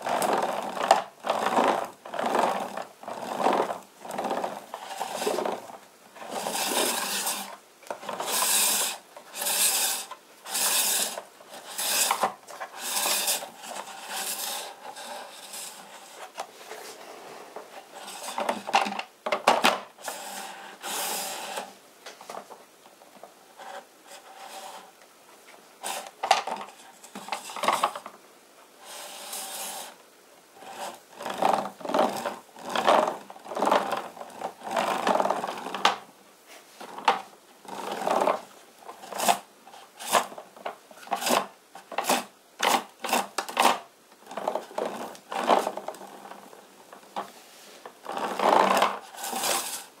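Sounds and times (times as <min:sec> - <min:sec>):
toy truck tyres scraping tabletop: 0:00.0 - 0:18.9, 0:20.0 - 0:21.8, 0:23.5 - 0:24.9, 0:25.8 - 0:28.0, 0:28.8 - 0:30.0, 0:30.6 - 0:40.4, 0:41.0 - 0:50.0.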